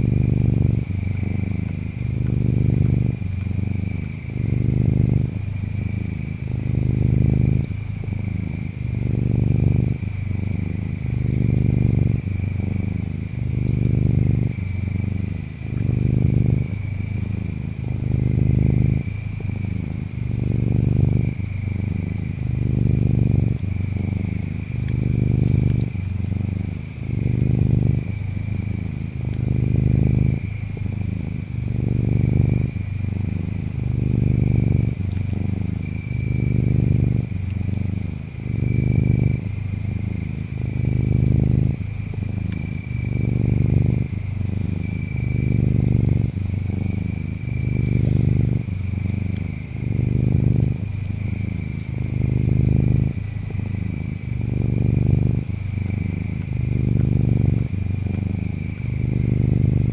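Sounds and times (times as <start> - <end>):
cat purring: 0.0 - 59.9
insects chirping: 0.0 - 59.9
very high insect chirping: 0.0 - 59.9.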